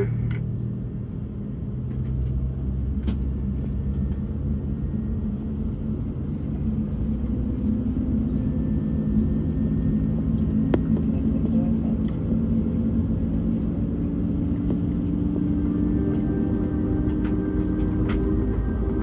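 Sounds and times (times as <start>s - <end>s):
aircraft cabin rumble and hum: 0.0s - 19.0s.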